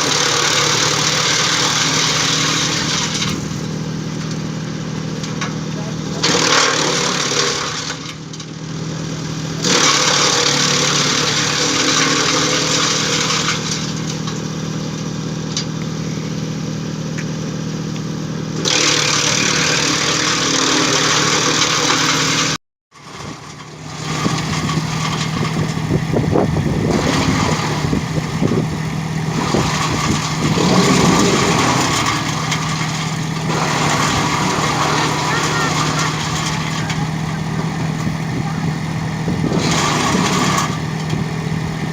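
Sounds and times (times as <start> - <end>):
wood chipper humming: 0.0 - 41.9.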